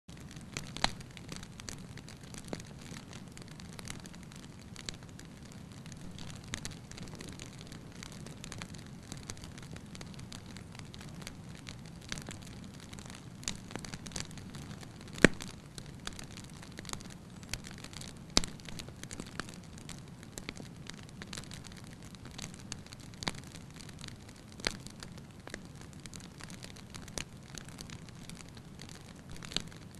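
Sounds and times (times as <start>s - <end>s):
campfire crackling and popping: 0.1s - 29.9s.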